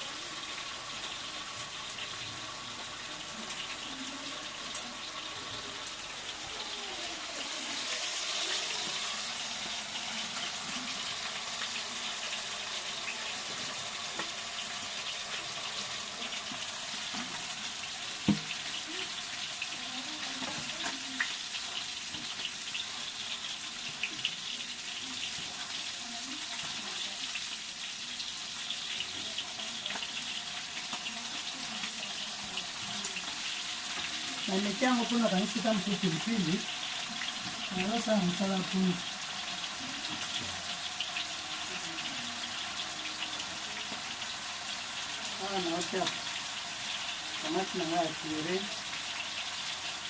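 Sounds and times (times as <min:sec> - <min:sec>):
food sizzling in a pot: 0:00.0 - 0:50.0.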